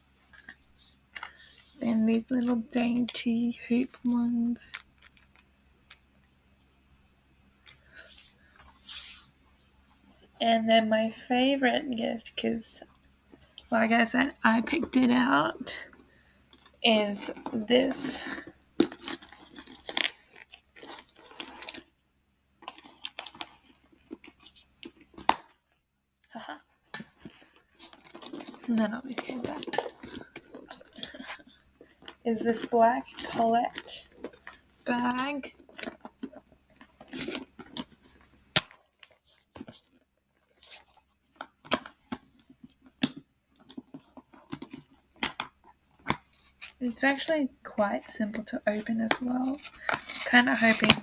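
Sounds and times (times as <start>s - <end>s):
stuffing crinkling and rustling: 0.0s - 6.7s, 7.5s - 51.0s.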